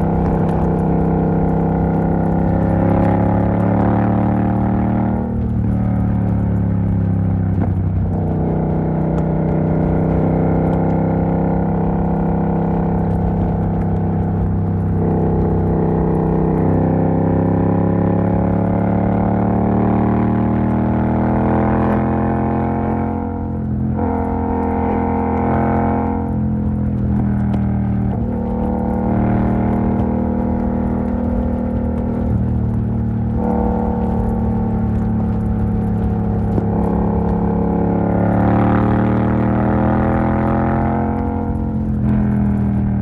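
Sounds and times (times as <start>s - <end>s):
motorcycle engine droning: 0.0s - 43.0s.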